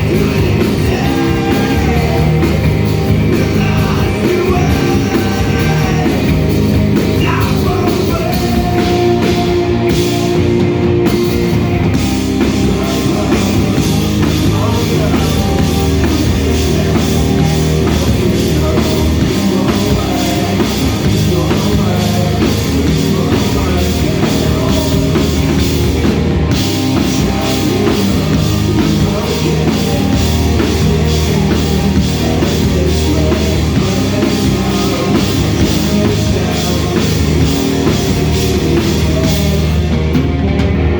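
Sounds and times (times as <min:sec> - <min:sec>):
fast drum beat with cymbals: 0:00.0 - 0:40.8
bass guitar: 0:00.0 - 0:40.9
distorted electric guitars: 0:00.0 - 0:40.9.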